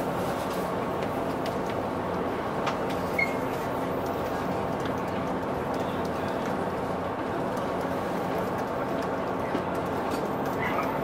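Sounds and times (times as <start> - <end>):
boat engines droning: 0.7 - 11.0.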